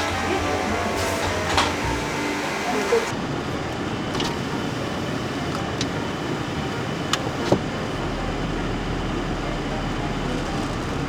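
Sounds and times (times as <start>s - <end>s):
vehicle running noise: 0.0s - 11.0s.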